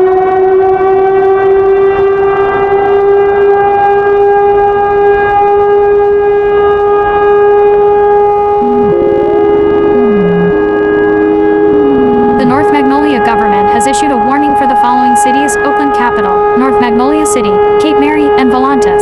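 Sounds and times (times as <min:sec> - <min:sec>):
second siren tone stepping pitch: 0:00.0 - 0:19.0
siren long steady tone: 0:00.0 - 0:19.0.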